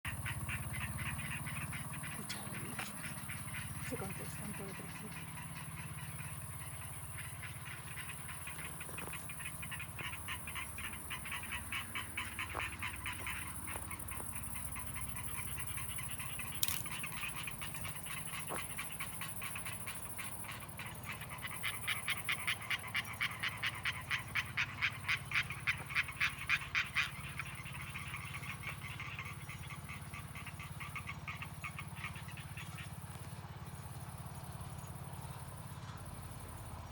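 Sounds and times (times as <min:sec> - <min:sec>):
frogs croaking in chorus: 0:00.1 - 0:36.9.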